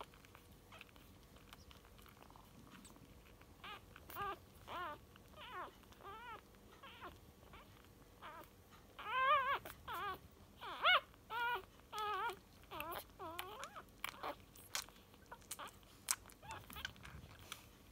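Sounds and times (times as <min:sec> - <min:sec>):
puppies squeaking and whimpering: 0:00.0 - 0:17.9
puppies suckling clicks: 0:00.0 - 0:17.9.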